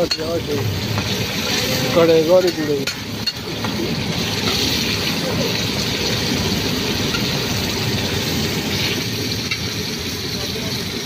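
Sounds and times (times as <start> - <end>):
curry frying with sizzling hiss: 0.0 - 11.0
fire low rumble: 0.0 - 11.0.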